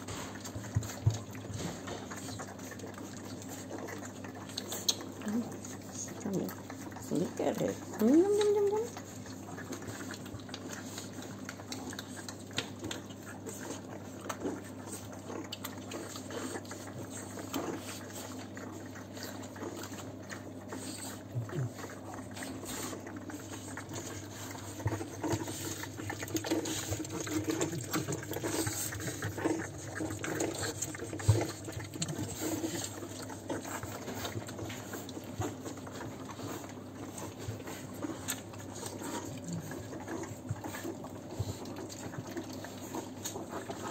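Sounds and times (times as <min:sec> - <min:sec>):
puppies suckling: 0:00.0 - 0:43.9.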